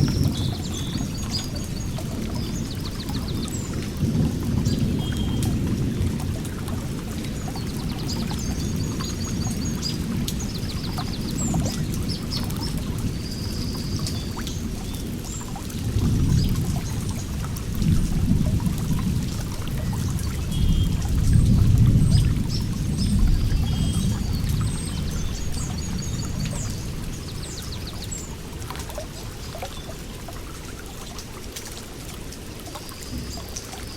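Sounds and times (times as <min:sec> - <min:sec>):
songbirds chirping: 0:00.0 - 0:31.5
water rushing: 0:00.0 - 0:33.9.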